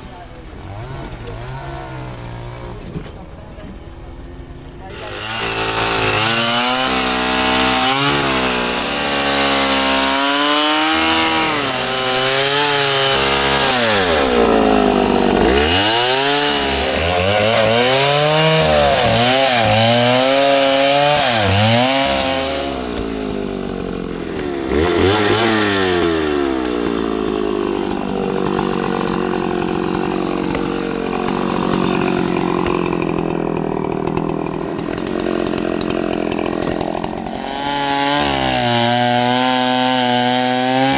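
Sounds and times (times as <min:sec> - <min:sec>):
chainsaw cutting tree trunk: 0:00.0 - 0:03.1, 0:04.9 - 0:40.9.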